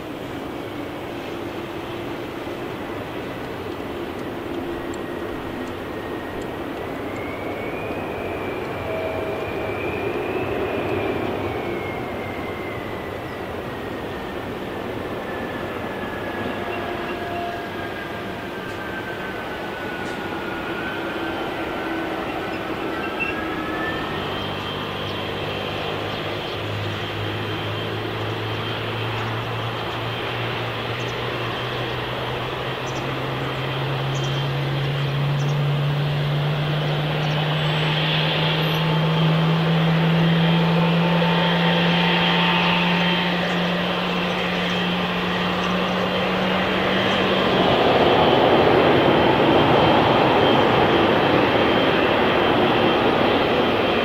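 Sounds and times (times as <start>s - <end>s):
airliner engine rising in pitch: 0.0s - 54.0s.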